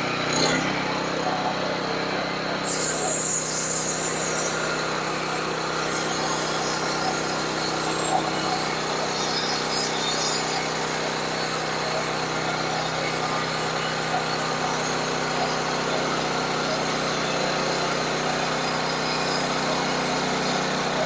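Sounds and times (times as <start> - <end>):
small gasoline engine running: 0.0 - 21.0.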